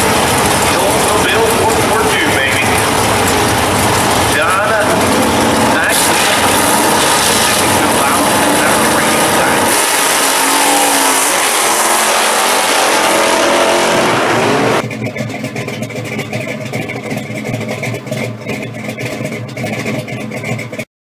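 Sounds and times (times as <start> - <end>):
uneven engine rumble: 0.0 - 12.1, 13.5 - 20.8
racing car engines at full throttle: 0.0 - 20.9.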